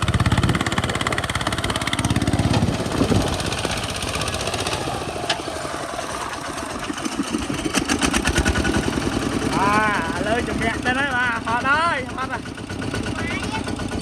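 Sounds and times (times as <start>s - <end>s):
tractor engine chugging: 0.0s - 14.0s.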